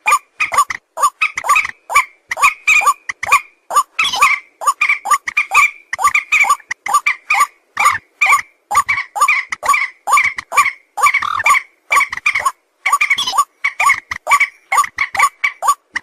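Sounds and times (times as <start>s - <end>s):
rapid pitched animal calls: 0.0s - 16.0s.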